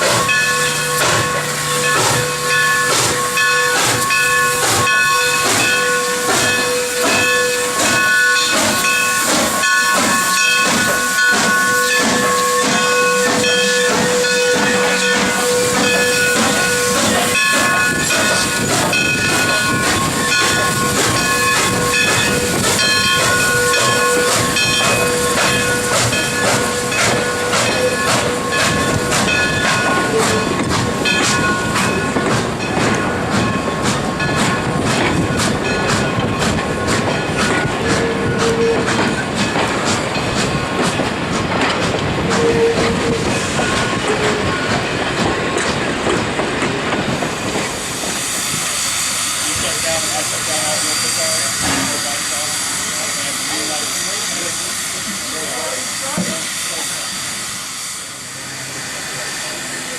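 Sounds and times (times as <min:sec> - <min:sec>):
steam hissing: 0:00.0 - 0:59.9
steam locomotive exhaust chuffing: 0:00.0 - 0:59.9.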